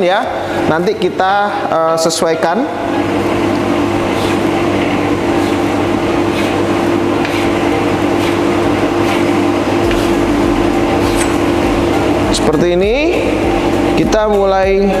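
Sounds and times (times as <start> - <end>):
loud steady hum: 0.0 - 15.0.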